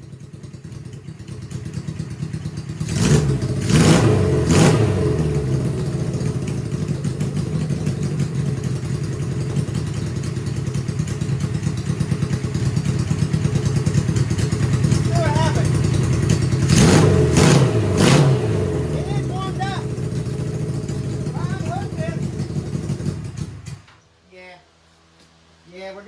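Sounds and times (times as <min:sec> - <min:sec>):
motorcycle engine revving and idling: 0:00.0 - 0:23.9.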